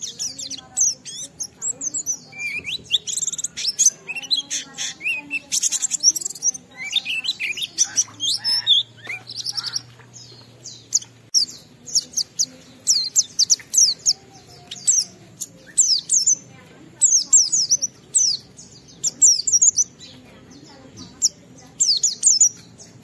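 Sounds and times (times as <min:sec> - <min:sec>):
white-eye bird warbling song: 0:00.0 - 0:23.0.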